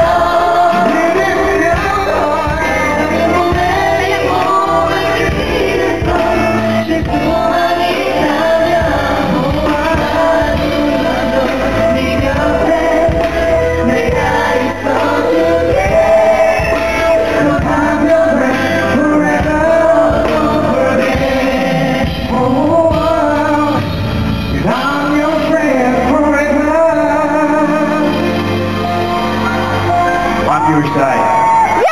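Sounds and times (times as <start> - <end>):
man singing into microphone: 0.0 - 28.4
live band playing: 0.0 - 31.9.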